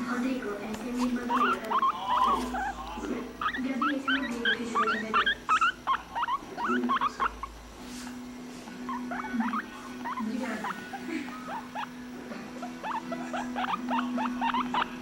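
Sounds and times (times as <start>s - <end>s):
guinea pig squeaking: 0.1s - 15.0s.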